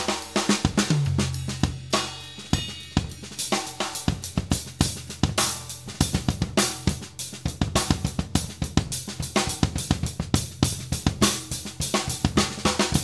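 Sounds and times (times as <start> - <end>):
drum kit playing: 0.0 - 13.0.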